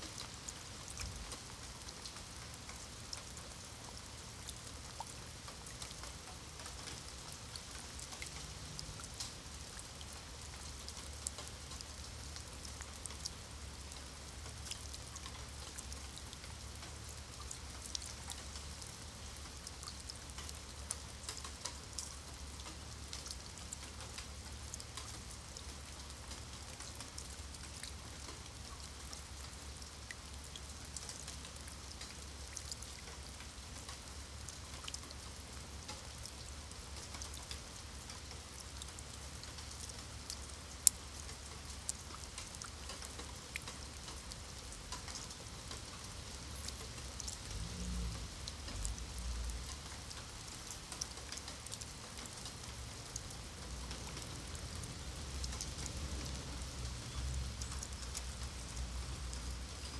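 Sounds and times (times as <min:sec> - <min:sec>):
rain on stone paving: 0:00.0 - 0:59.9.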